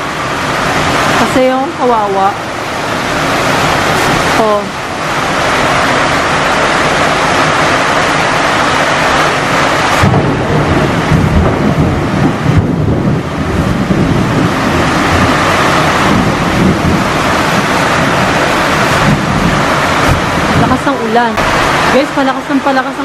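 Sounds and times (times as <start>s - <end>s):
deep rumble: 0.0s - 23.0s
heavy rain pouring: 0.0s - 23.0s.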